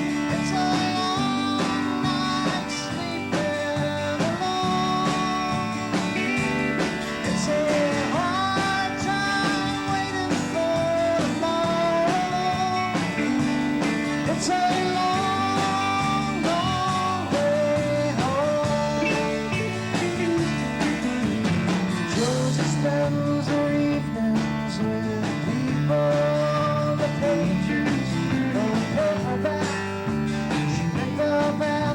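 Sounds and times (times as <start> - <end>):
electric guitar: 0.0 - 31.9
live band playing country-rock: 0.0 - 31.9
person singing: 0.0 - 31.9.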